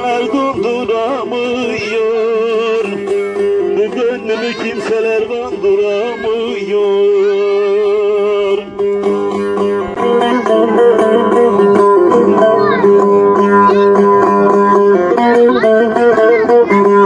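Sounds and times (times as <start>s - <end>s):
plucked lute folk tune: 0.0s - 17.0s.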